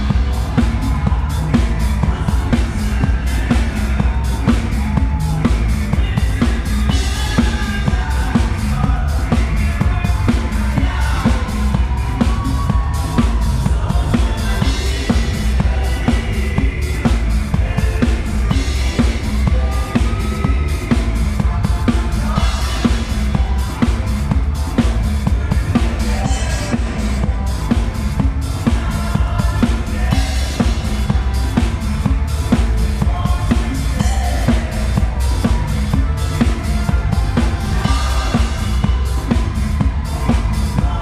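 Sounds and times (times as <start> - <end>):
drum kit beat: 0.0 - 41.0
live band playing disco: 0.0 - 41.0.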